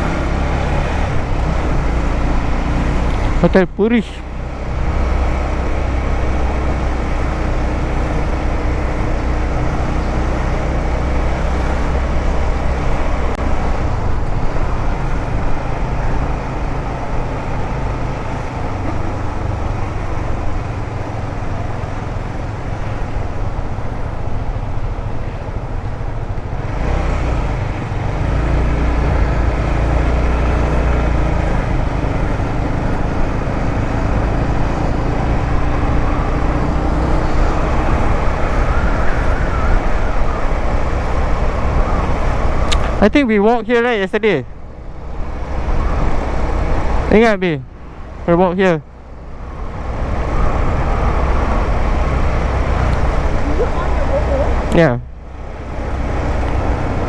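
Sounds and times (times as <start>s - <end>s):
motorcycle engine running: 0.0s - 43.0s, 48.9s - 57.0s
wind and road noise: 0.0s - 57.0s.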